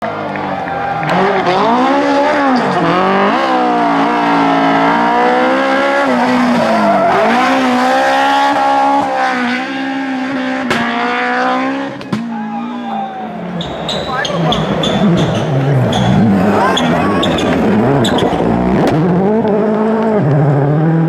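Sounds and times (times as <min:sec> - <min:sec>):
rally car engine revving: 0:00.0 - 0:12.3, 0:13.2 - 0:21.0.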